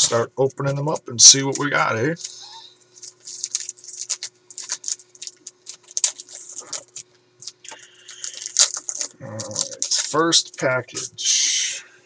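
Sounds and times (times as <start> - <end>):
wrapper crinkling: 1.5 - 11.2.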